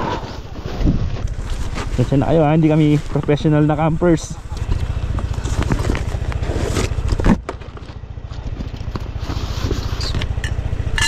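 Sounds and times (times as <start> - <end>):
motorcycle engine idling: 1.2 - 11.0.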